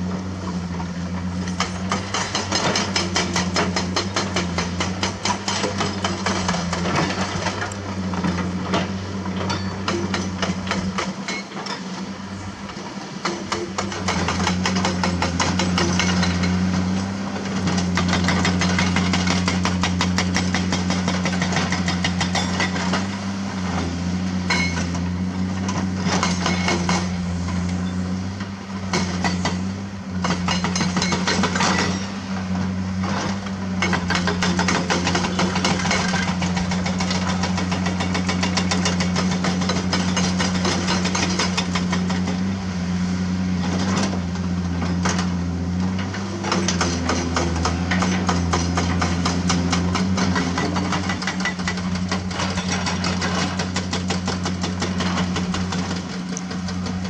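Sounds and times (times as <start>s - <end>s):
excavator diesel engine running: 0.0s - 57.0s
hydraulic rock breaker hammering: 1.2s - 12.0s, 13.2s - 27.7s, 28.8s - 32.3s, 33.0s - 42.6s, 43.8s - 57.0s.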